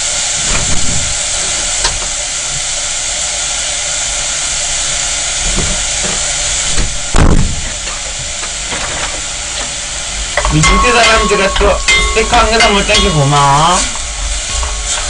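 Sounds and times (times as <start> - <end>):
beef sizzling in a pot: 0.0 - 15.0.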